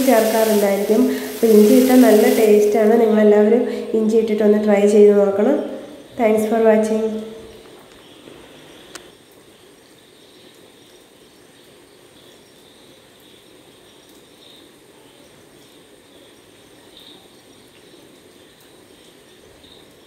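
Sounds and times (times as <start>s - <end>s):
outdoor background ambience: 0.0s - 20.0s.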